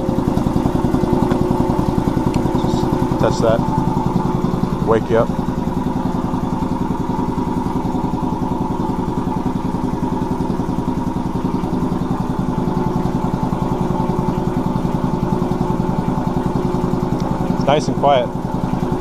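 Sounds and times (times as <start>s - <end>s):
air compressor pump chugging: 0.0s - 19.0s
compressor hum: 0.0s - 19.0s.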